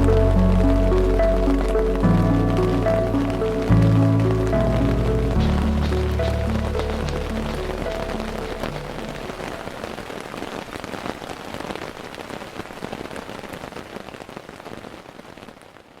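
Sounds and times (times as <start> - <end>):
steady rain on a surface: 0.0 - 16.0.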